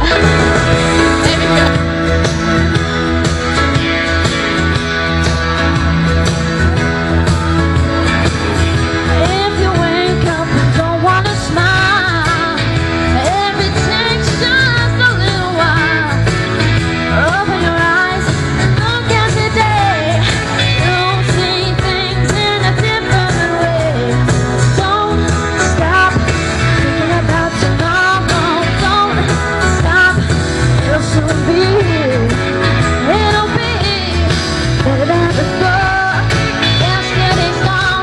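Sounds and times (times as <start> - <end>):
woman singing into microphone: 0.0 - 1.8, 9.0 - 38.0
guitar music over speakers: 0.0 - 38.0.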